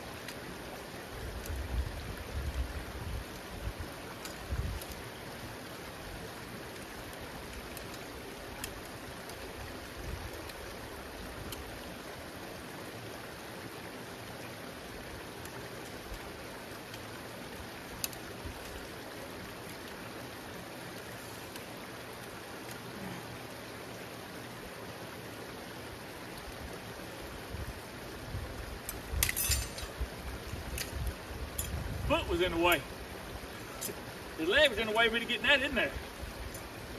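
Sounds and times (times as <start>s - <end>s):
creek water running: 0.0s - 36.9s.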